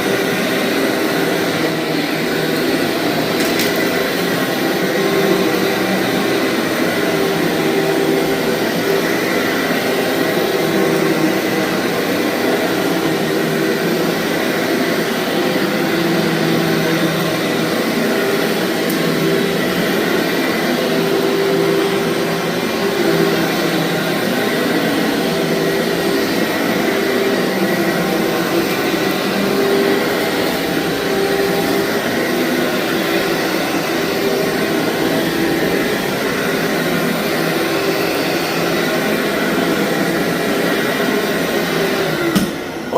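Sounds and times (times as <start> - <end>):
vacuum cleaner on carpet: 0.0 - 42.9.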